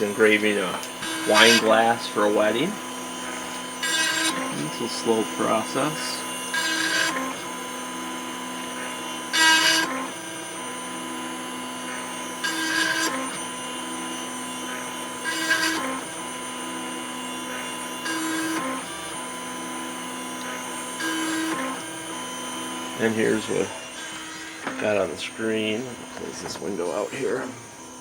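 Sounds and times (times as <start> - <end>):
harsh engraving bursts on glass: 0.0 - 27.6
engraving machine whining: 0.0 - 28.0.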